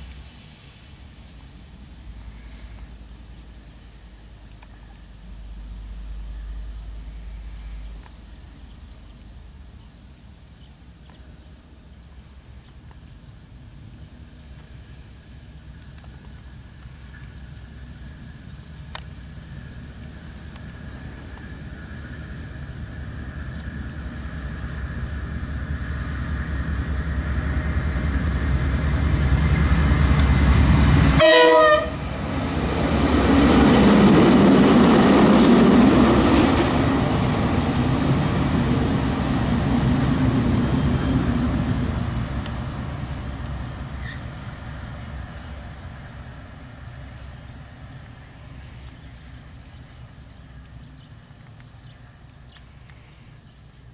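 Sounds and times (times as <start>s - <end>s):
diesel locomotive engine rumble: 0.0s - 53.9s
train running noise: 0.0s - 53.9s.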